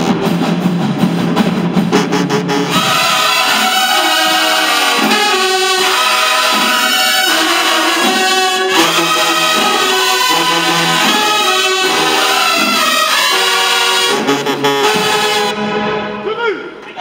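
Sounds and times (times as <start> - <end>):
brass marching band playing: 0.0 - 16.4.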